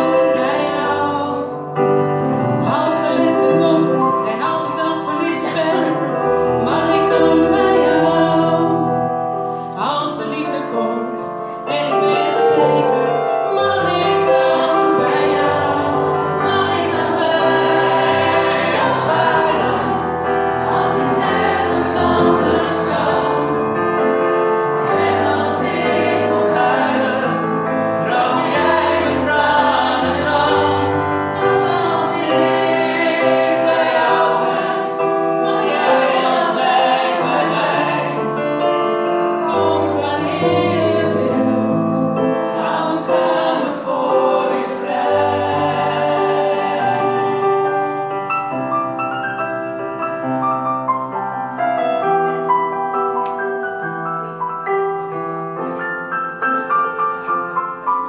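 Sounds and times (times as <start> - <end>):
group of people singing: 0.0 - 47.9
electric piano: 0.0 - 58.0.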